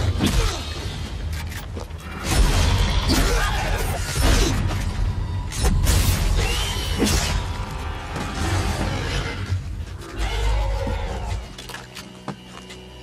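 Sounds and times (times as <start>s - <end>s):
action film music score: 0.0s - 13.0s.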